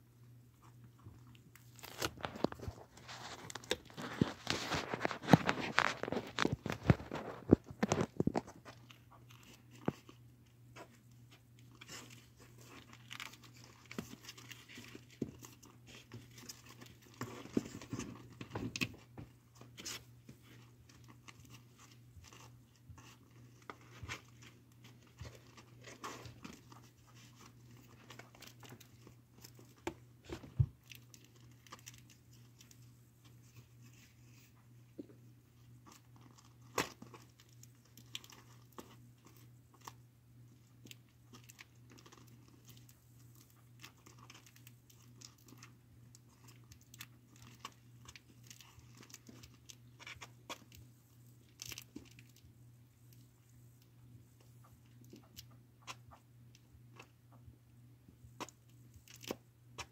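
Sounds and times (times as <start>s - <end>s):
faint low hum: 0.0s - 59.9s
kittens playing on cardboard: 0.2s - 59.9s.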